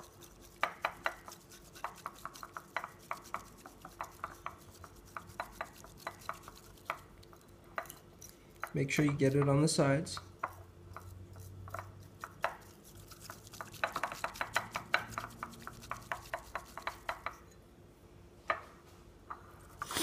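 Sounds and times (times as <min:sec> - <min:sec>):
bamboo whisk scraping bowl: 0:00.0 - 0:08.0, 0:08.9 - 0:17.6.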